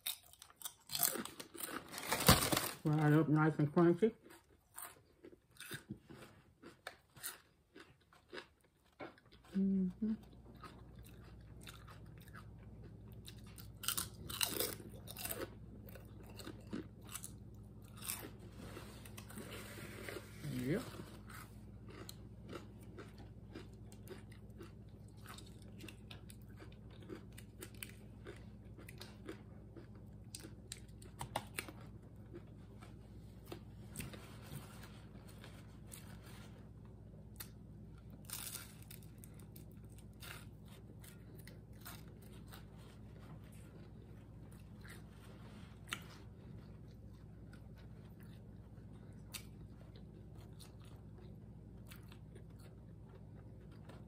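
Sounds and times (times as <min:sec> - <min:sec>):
crunching crispy food: 0:00.0 - 0:03.1, 0:04.2 - 0:09.7, 0:10.5 - 0:54.0
faint low hum: 0:00.0 - 0:54.0
quiet chewing: 0:04.2 - 0:54.0.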